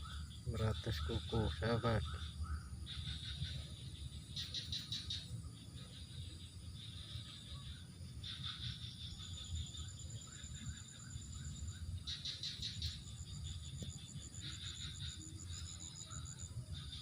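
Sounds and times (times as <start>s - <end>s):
insects trilling and buzzing: 0.0s - 17.0s
small birds chirping: 0.0s - 17.0s.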